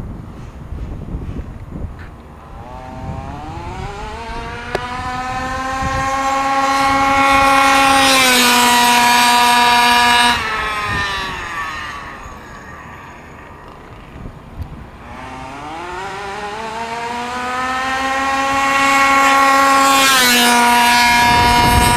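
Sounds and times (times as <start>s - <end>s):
small two-stroke engine buzzing: 0.6s - 21.9s.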